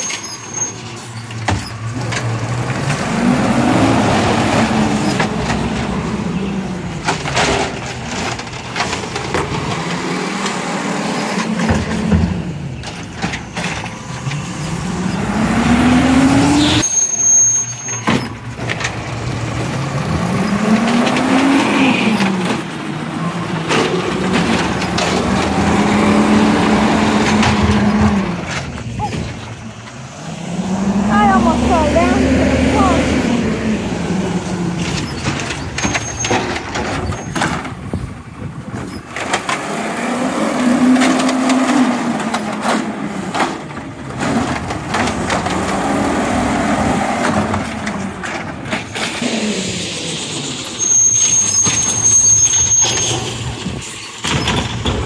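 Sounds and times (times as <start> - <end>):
garbage truck engine revving: 0.8 - 17.0, 18.0 - 55.0.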